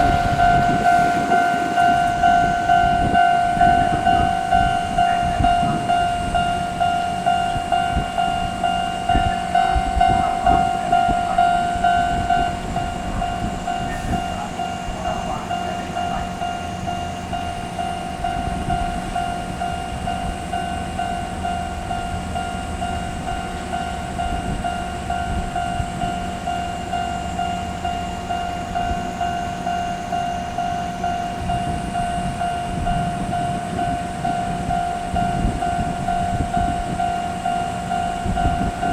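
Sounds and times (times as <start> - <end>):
level-crossing alarm dinging: 0.0 - 38.9
train rumbling and clattering: 0.0 - 38.9.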